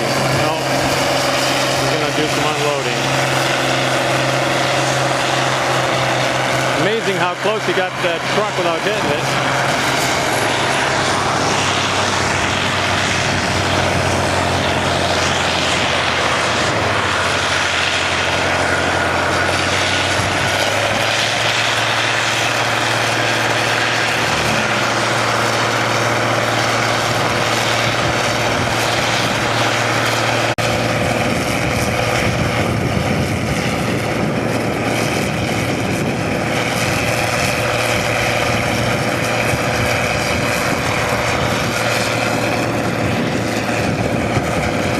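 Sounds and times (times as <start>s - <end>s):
combine harvester running: 0.0s - 44.9s.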